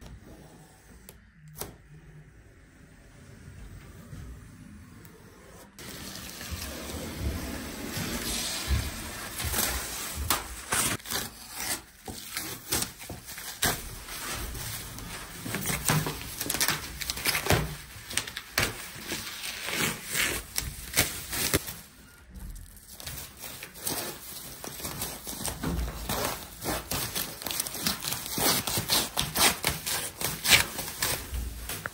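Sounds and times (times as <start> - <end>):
plastic film crinkling: 5.8 - 31.9.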